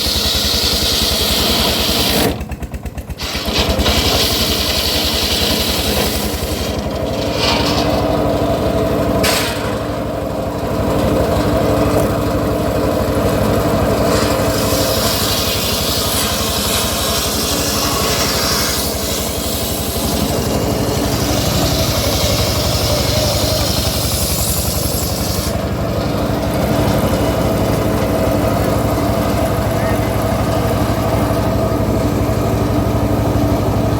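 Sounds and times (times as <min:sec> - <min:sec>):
sawmill engine running: 0:00.0 - 0:33.9.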